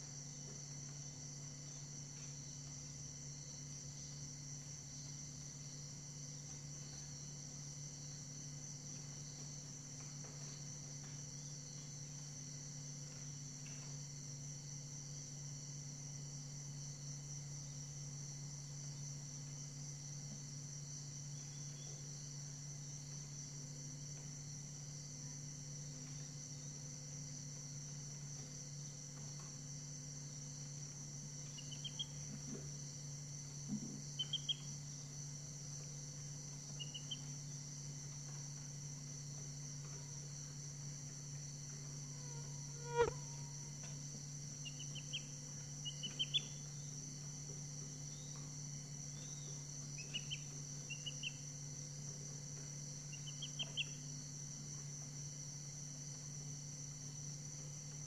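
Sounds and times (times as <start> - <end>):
high insect chorus: 0.0 - 58.0.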